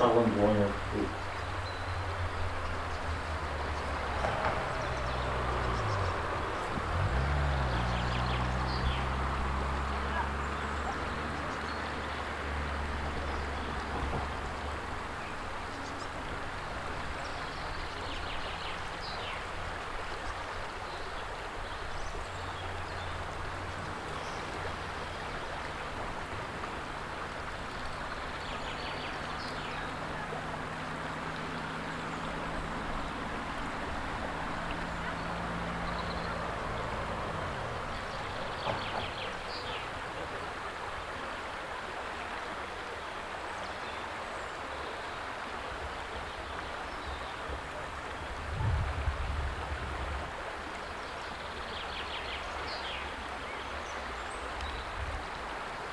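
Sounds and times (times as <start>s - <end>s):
river water flowing over gravel: 0.0s - 55.9s.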